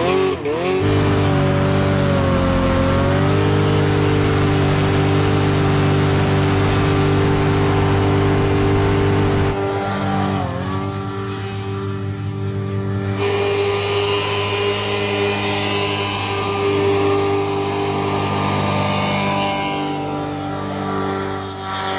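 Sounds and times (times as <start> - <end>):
engine running at high revs: 0.0 - 21.9.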